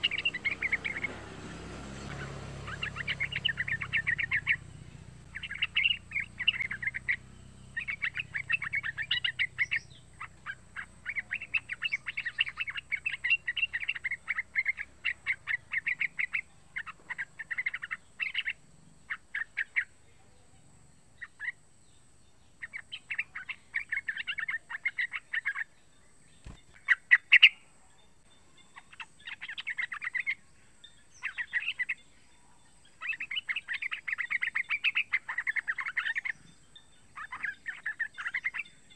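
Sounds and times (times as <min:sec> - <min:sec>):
bird chattering calls: 0:00.0 - 0:20.2, 0:21.2 - 0:21.7, 0:22.6 - 0:27.7, 0:28.5 - 0:38.9.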